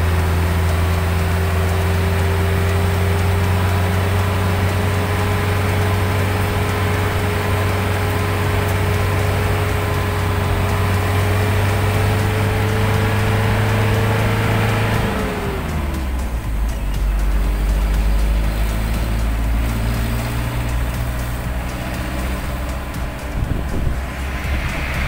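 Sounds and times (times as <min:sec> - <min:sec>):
road and wind noise: 0:00.0 - 0:25.0
vehicle engine running: 0:00.0 - 0:25.0.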